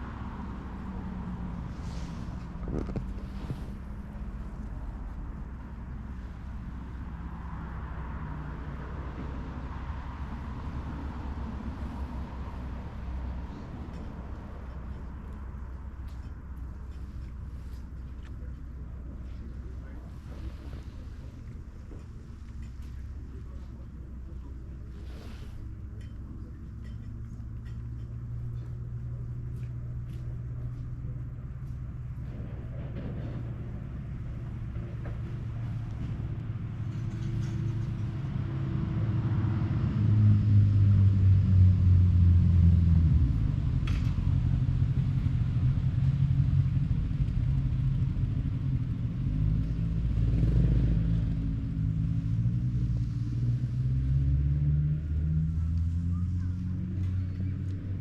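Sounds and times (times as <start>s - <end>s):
low engine humming: 0.0s - 58.0s.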